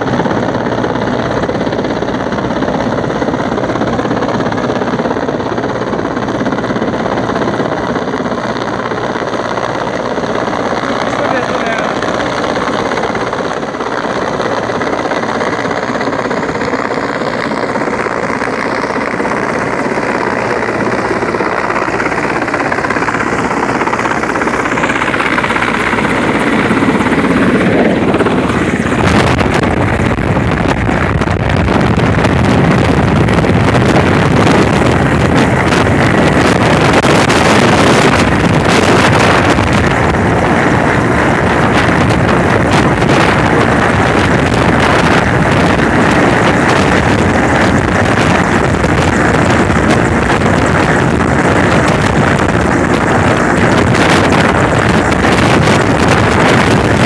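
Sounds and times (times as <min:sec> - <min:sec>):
helicopter rotor and turbine din: 0:00.0 - 0:57.0
wind buffeting microphone: 0:00.0 - 0:57.0.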